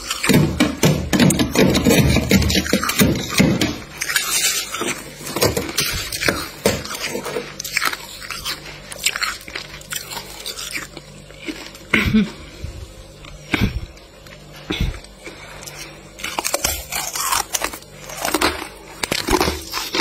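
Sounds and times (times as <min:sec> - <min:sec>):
frost crunching and crackling: 0:00.0 - 0:20.0.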